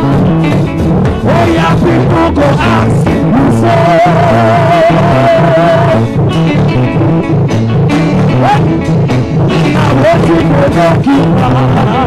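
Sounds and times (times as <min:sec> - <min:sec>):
gospel band music: 0:00.0 - 0:12.0.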